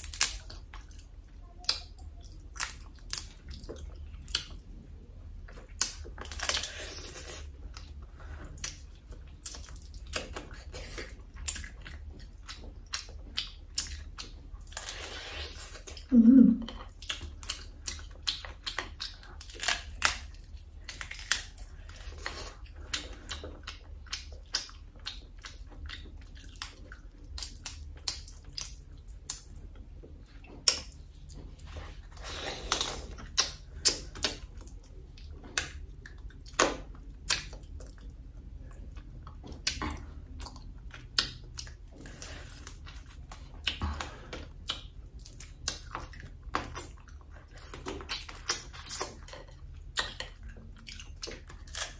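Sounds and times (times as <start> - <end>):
wet chewing: 5.4 - 16.1, 16.7 - 51.9.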